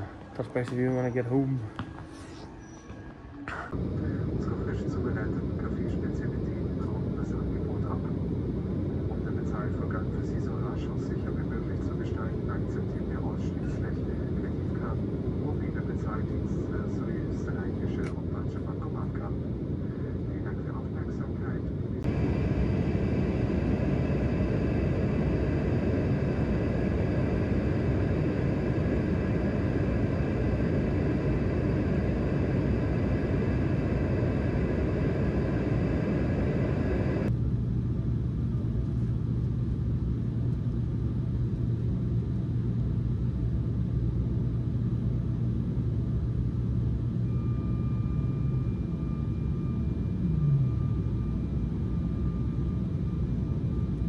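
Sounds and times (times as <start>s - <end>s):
airliner engines rumbling: 0.0s - 54.0s
steady low hum: 0.0s - 54.0s.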